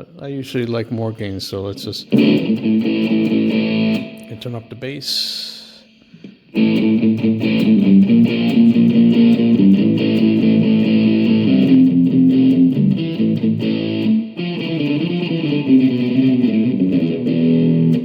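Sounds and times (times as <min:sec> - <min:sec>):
distorted electric guitar riff: 0:02.1 - 0:04.7, 0:05.4 - 0:18.0.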